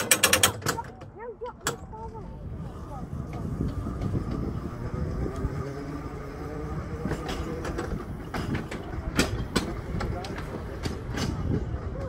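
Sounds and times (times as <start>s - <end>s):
tram wheels rumbling on rails: 0.0s - 12.0s
wheels clicking over track joints: 0.0s - 12.0s.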